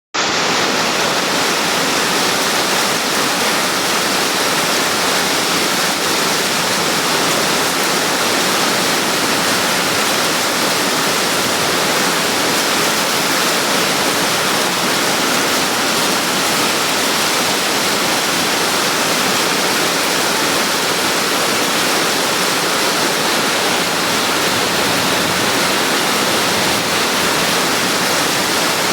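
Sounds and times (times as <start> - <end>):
rain falling steadily: 0.2 - 28.9.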